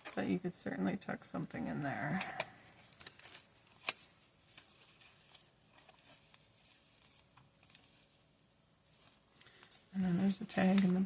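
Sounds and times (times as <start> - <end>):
paper pages rustling: 2.0 - 11.0.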